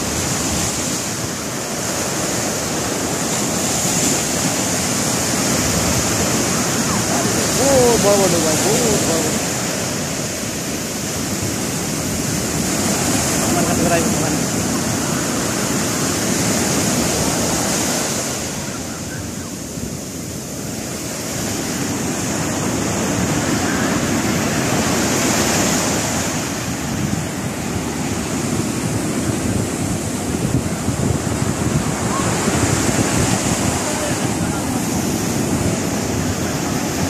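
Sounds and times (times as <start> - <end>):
sea surf breaking on beach: 0.0 - 37.0.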